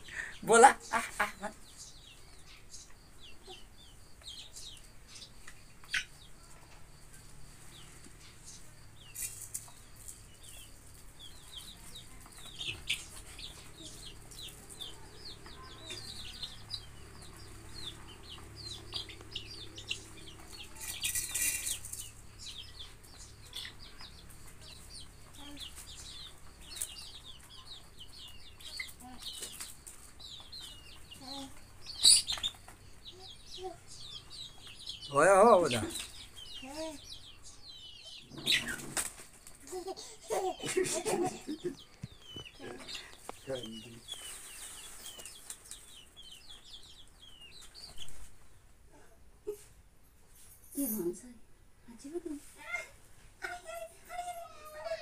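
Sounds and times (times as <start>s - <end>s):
chickens clucking: 0.0s - 49.9s
chicks peeping: 0.0s - 50.0s, 52.1s - 55.0s.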